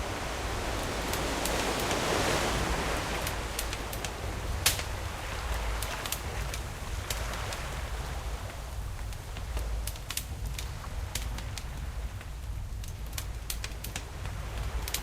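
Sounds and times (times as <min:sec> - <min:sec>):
low rumble of surf: 0:00.0 - 0:15.0
ocean waves washing in: 0:00.0 - 0:15.0
campfire crackling and popping: 0:00.8 - 0:15.0.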